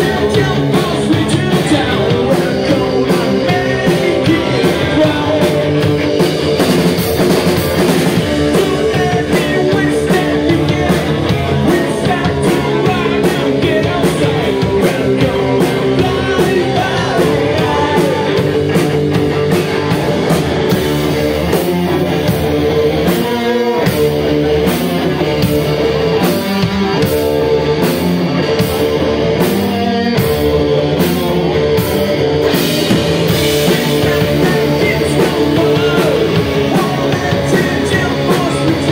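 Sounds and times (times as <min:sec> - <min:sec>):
distorted electric guitars: 0:00.0 - 0:38.9
rock band playing: 0:00.0 - 0:38.9.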